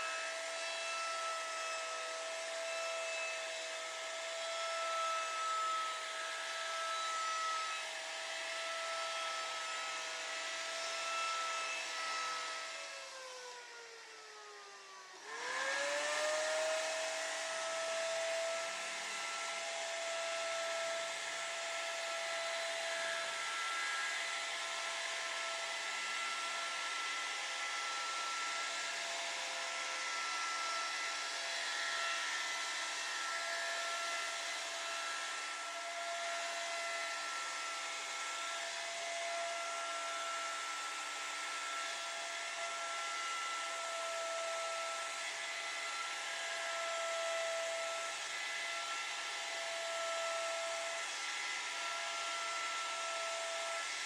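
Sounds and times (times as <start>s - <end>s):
wood router whining: 0.0s - 54.0s.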